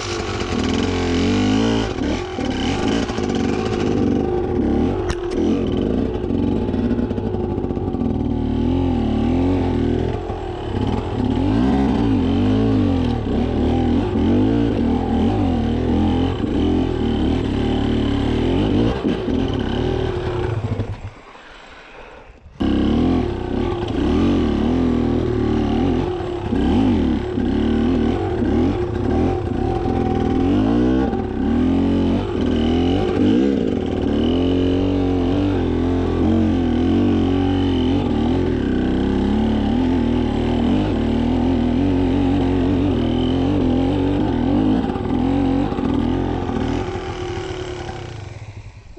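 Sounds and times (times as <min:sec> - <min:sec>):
motorcycle engine revving: 0:00.0 - 0:21.2, 0:22.6 - 0:48.9.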